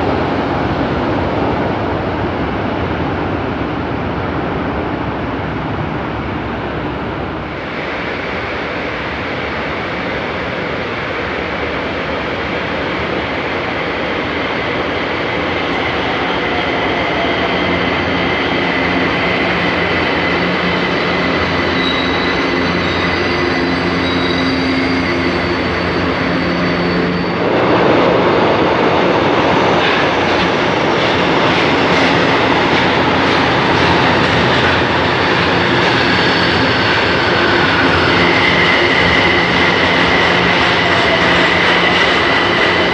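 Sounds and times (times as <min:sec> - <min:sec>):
train rumble and rail noise: 0:00.0 - 0:42.9.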